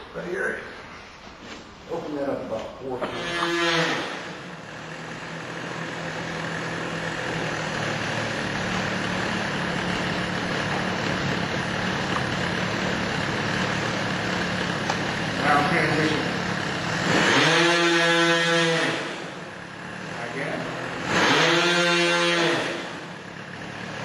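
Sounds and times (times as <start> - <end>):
model airplane engine idling: 3.0 - 21.2, 22.2 - 24.0.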